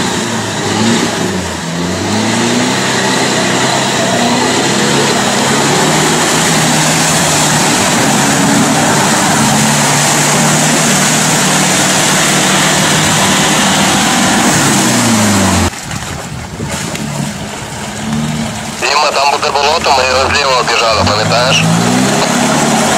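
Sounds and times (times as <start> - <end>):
engine revving hard: 0.0 - 15.7, 18.0 - 22.9
rushing mud and water: 0.0 - 22.9.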